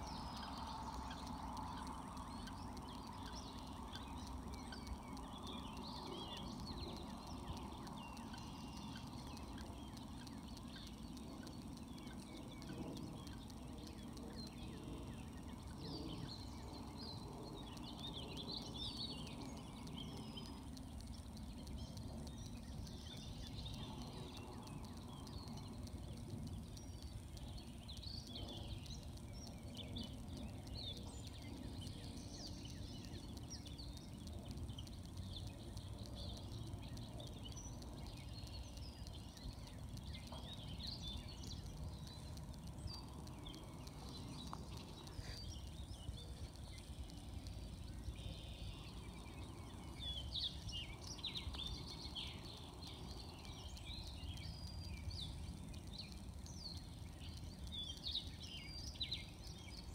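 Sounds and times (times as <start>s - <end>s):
low outdoor rumble: 0.0s - 59.9s
small birds chirping: 0.0s - 59.9s.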